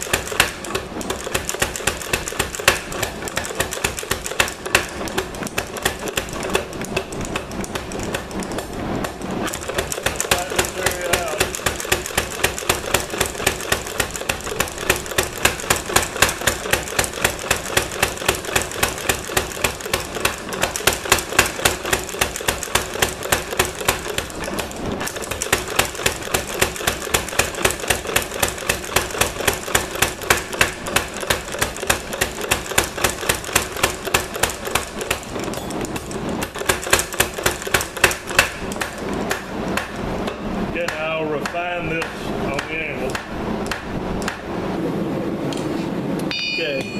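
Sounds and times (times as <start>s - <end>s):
power hammer striking steel: 0.0s - 44.5s, 46.3s - 46.9s.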